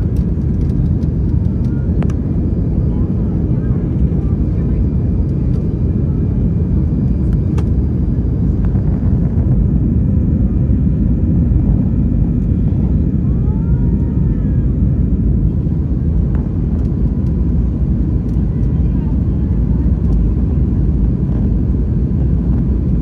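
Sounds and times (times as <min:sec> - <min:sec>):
airplane cabin engine rumble: 0:00.0 - 0:23.0.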